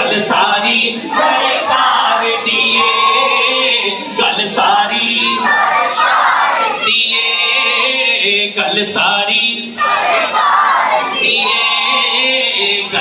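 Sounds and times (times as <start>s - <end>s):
men and boys chanting in unison: 0.0s - 13.0s.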